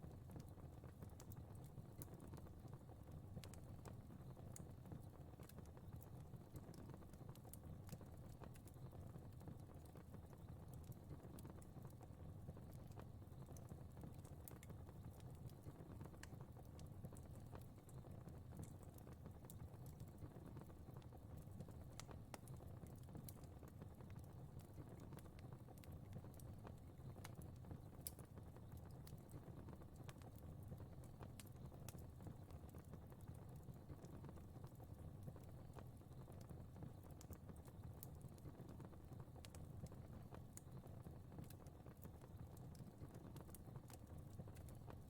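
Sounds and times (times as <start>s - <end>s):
fire crackling: 0.0s - 45.0s.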